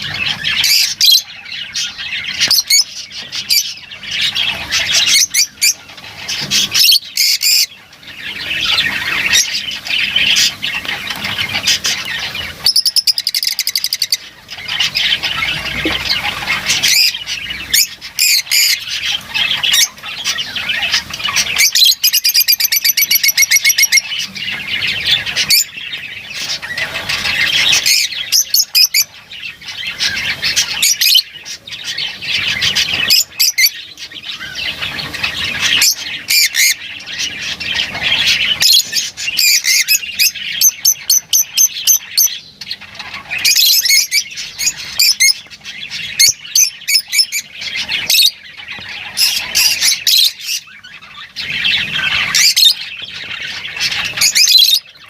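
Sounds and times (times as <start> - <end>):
lovebirds chattering and squawking: 0.0 - 55.0.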